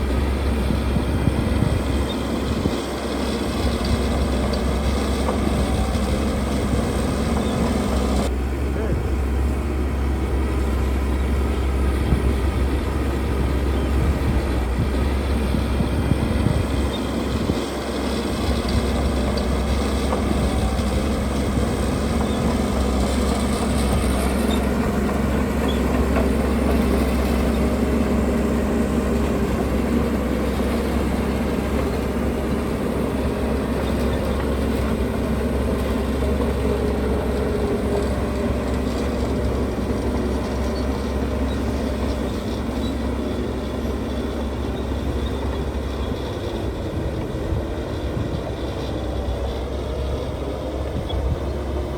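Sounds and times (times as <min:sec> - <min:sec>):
diesel engines of earthmoving machinery: 0:00.0 - 0:51.9.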